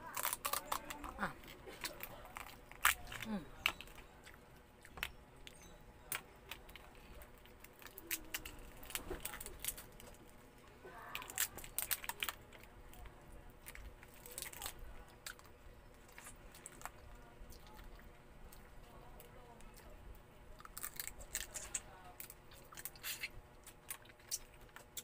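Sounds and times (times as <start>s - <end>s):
crab shells cracking by hand: 0.0s - 10.3s, 11.1s - 18.6s, 20.6s - 25.0s.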